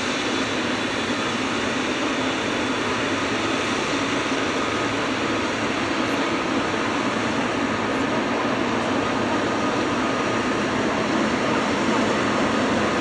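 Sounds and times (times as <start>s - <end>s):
high engine whine: 0.0s - 13.0s
jet engines running: 0.0s - 13.0s.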